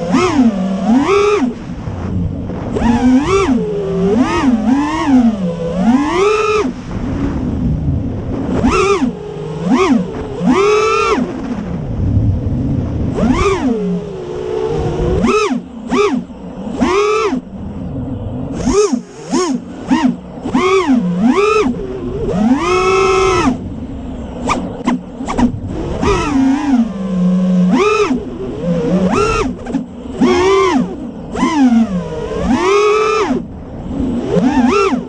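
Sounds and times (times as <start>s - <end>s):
drone motors whining: 0.0s - 35.0s
wind buffeting: 0.0s - 35.0s.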